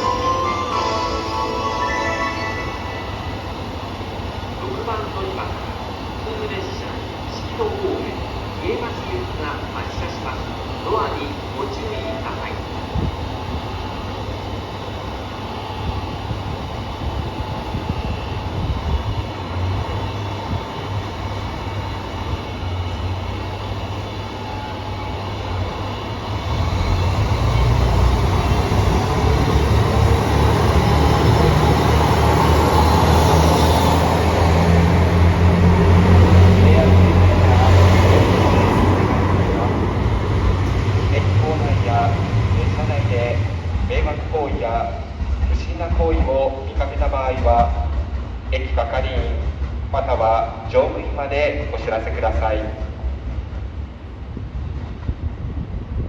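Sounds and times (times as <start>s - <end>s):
diesel railcar engine hum: 0.0s - 56.0s.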